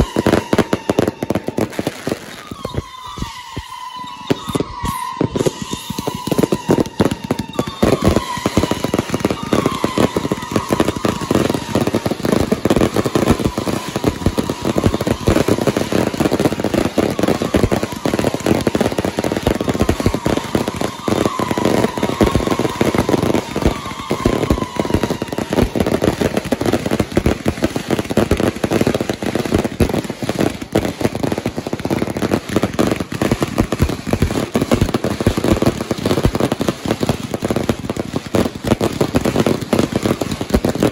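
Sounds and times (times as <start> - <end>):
falling firework whistles: 0.0 - 40.9
fireworks crackling: 0.0 - 40.9.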